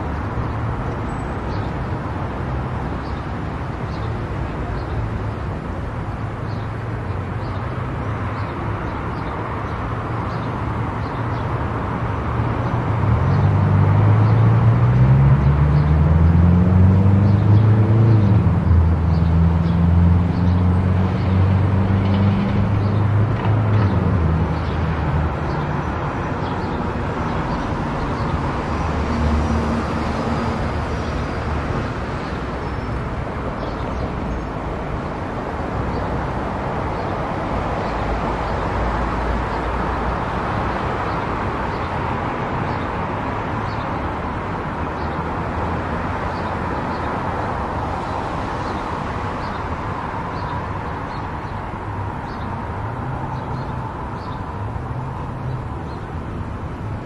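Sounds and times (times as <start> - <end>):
tyre and road noise: 0.0 - 57.0.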